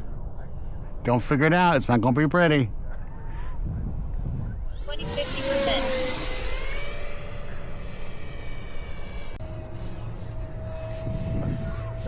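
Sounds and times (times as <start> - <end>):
low wind rumble: 0.0 - 12.0
rc jet fan whining: 0.0 - 12.0.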